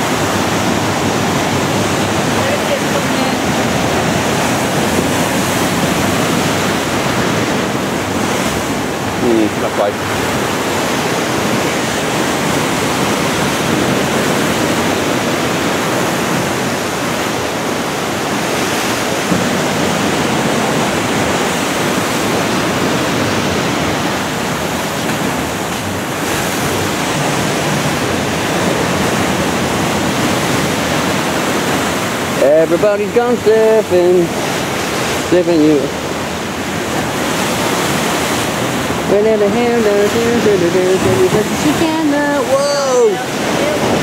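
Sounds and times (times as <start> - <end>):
waves breaking: 0.0 - 44.0.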